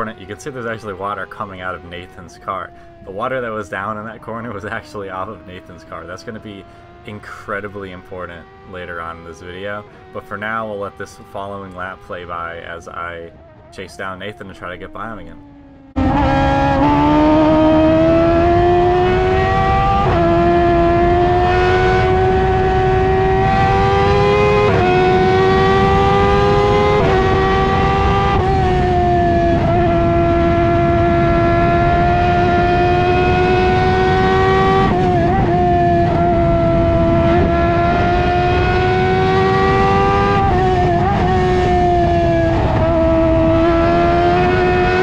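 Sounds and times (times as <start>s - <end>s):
race car engine shifting gears: 0.0s - 13.7s, 15.4s - 45.0s.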